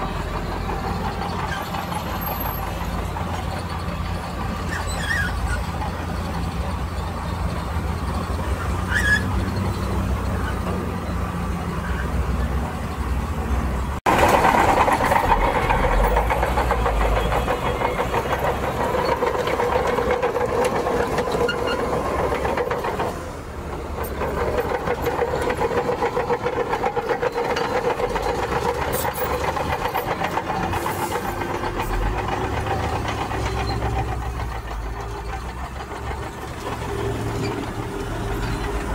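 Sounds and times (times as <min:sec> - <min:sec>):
heavy earthmoving machinery: 0:00.0 - 0:38.9.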